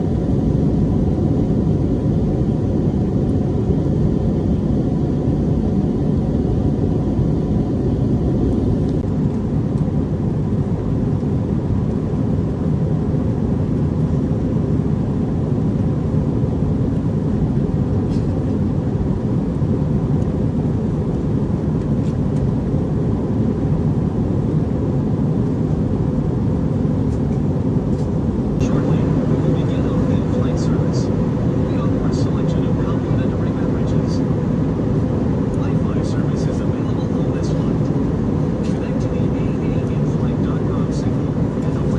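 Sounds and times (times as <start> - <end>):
airliner cabin engine rumble: 0.0 - 41.9
faint steady whine: 0.0 - 41.9.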